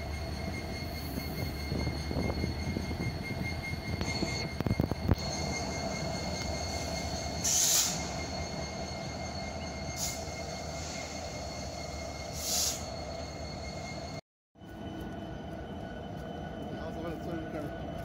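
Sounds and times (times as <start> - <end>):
locomotive engine rumbling: 0.0 - 18.0
wheels squealing on rail: 0.0 - 18.0.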